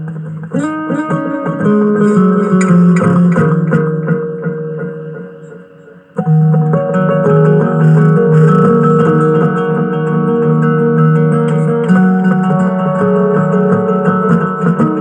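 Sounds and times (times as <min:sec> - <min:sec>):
layered acoustic guitar plucking: 0:00.0 - 0:15.0.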